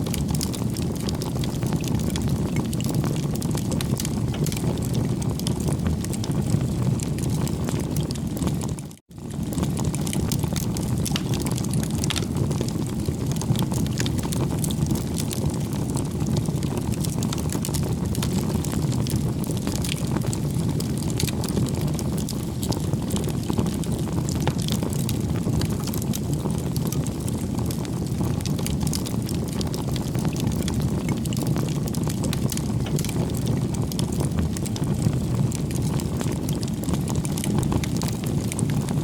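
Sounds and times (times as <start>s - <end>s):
bonfire crackling and popping: 0.0s - 39.0s
low fire rumble: 0.0s - 39.0s.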